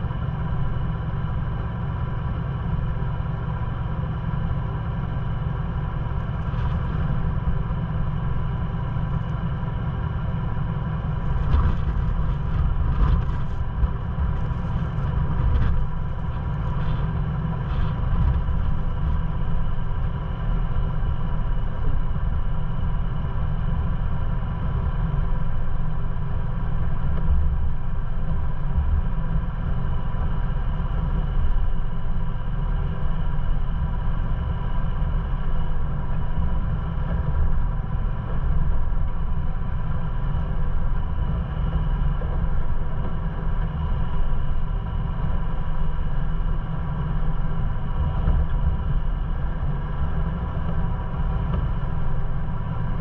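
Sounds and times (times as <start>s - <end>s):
vehicle engine rumble: 0.0s - 53.0s.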